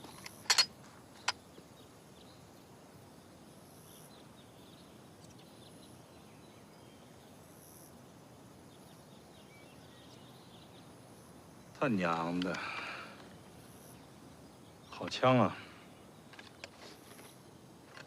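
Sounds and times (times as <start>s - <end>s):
insects chirring: 0.0s - 18.0s
low steady hiss: 0.0s - 18.0s.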